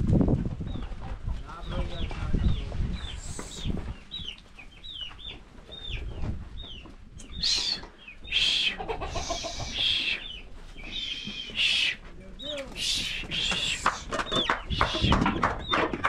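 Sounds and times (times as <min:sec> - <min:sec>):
chicks peeping: 0:00.3 - 0:16.0
chickens calling harshly: 0:00.4 - 0:16.0.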